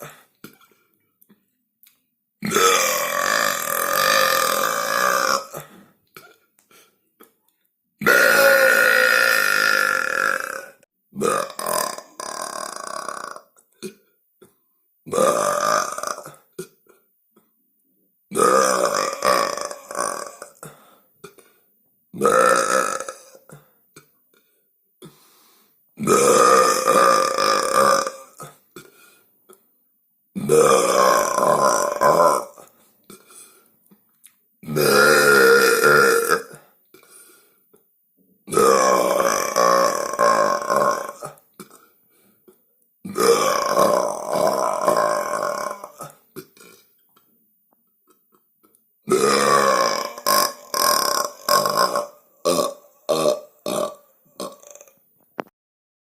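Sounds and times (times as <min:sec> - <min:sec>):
person burping: 0:00.0 - 0:00.8, 0:02.4 - 0:07.4, 0:08.0 - 0:17.1, 0:18.3 - 0:21.6, 0:22.2 - 0:25.2, 0:26.0 - 0:29.6, 0:30.4 - 0:33.6, 0:34.6 - 0:37.2, 0:38.5 - 0:47.0, 0:48.1 - 0:55.5.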